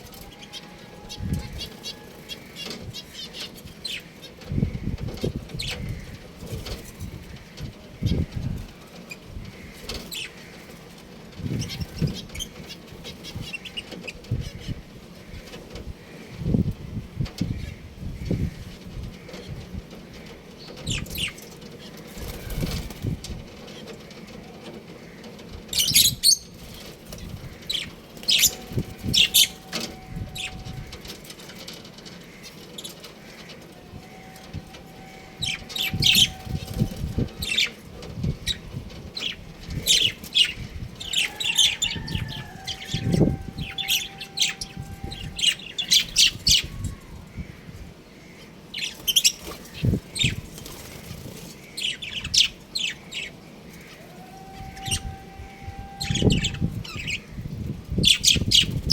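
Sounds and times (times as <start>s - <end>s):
small birds chirping: 0.0s - 55.2s, 56.0s - 58.9s.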